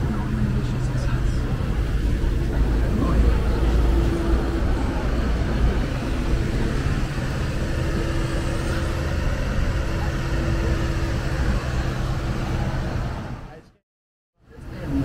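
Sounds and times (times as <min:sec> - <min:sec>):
car engine idling: 0:00.0 - 0:13.7
city street noise: 0:00.0 - 0:13.8, 0:14.4 - 0:15.0.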